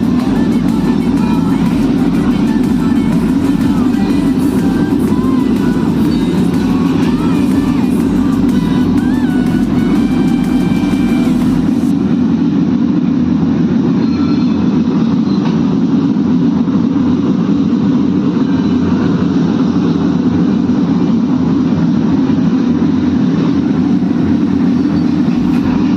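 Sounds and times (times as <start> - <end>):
furnace deep rushing noise: 0.0 - 25.9.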